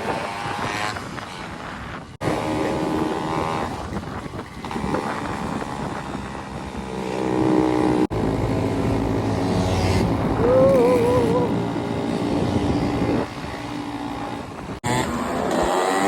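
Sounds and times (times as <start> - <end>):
two-stroke motorcycle engines revving: 0.0 - 16.0.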